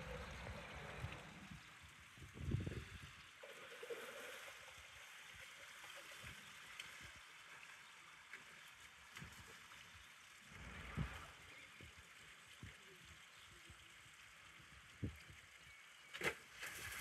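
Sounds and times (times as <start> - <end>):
soft splashes: 0.0 - 17.0
water running and lapping: 0.0 - 17.0.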